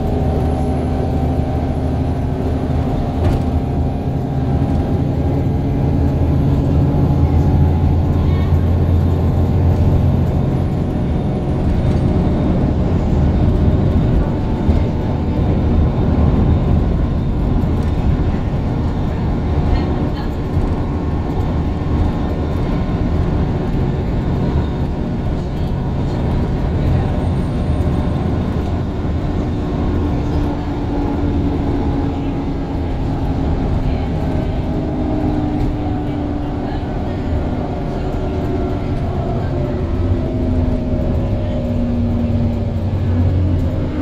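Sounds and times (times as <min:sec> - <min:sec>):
bus engine droning: 0:00.0 - 0:44.0
road noise: 0:00.0 - 0:44.0.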